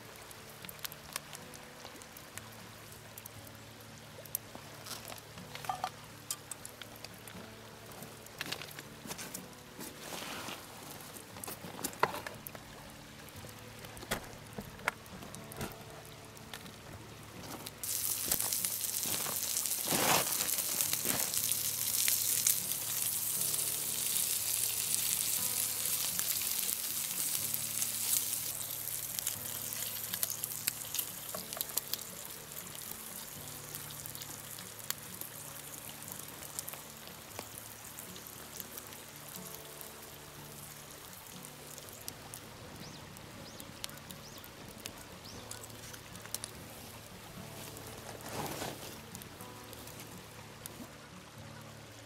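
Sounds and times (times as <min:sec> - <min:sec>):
fire crackles: 0:00.0 - 0:52.0
food sizzling over campfire: 0:00.0 - 0:52.0
soft background music: 0:00.0 - 0:52.0.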